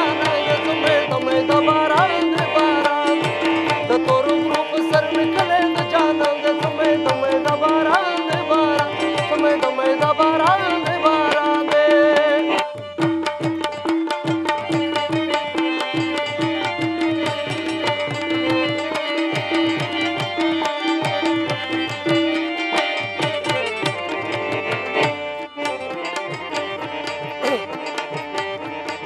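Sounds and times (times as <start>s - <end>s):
lute and harmonium melody: 0.0s - 29.0s
tabla fast rhythm: 0.0s - 29.0s.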